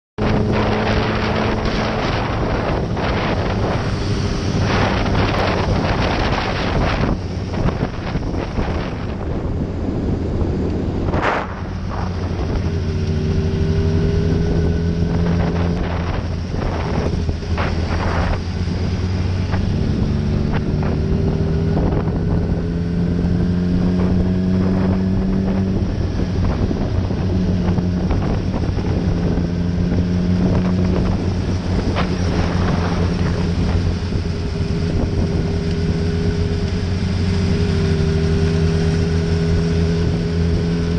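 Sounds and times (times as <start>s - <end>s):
motorcycle engine running: 0.2s - 40.9s
wind noise on microphone: 0.2s - 40.9s.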